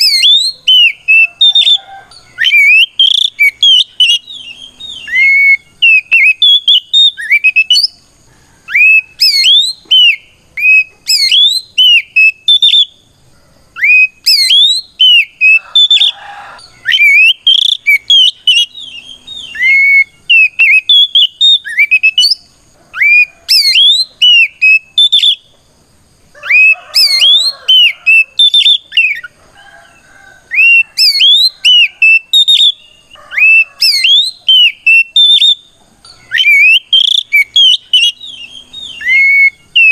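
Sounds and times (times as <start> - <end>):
bird singing whistled notes: 0.0 - 8.1, 8.7 - 13.2, 13.8 - 25.6, 26.4 - 29.3, 30.5 - 39.9.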